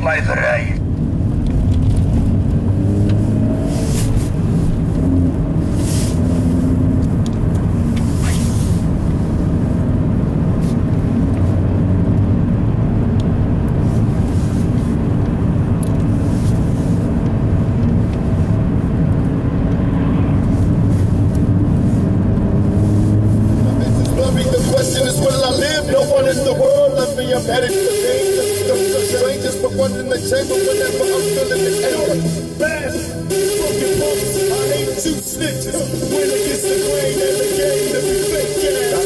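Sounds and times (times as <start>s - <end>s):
car engine humming: 0.0s - 39.0s
road and tyre noise: 0.0s - 39.0s.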